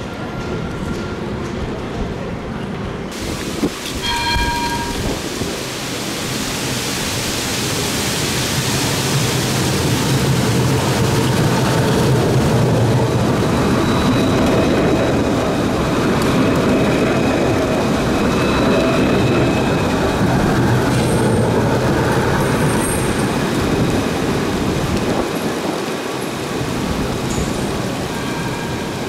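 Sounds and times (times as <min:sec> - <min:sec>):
tram rumble and hiss: 0:00.0 - 0:29.0.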